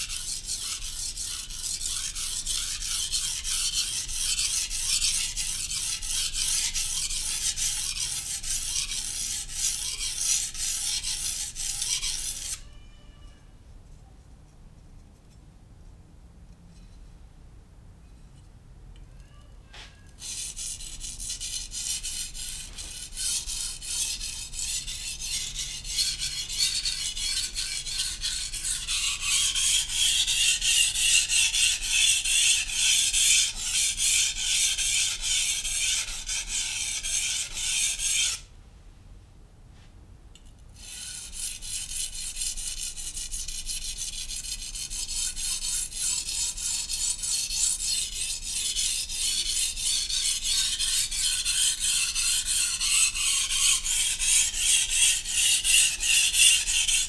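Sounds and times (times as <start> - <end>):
knife on whetstone rasping: 0.0 - 12.6, 20.2 - 38.5, 40.8 - 57.0.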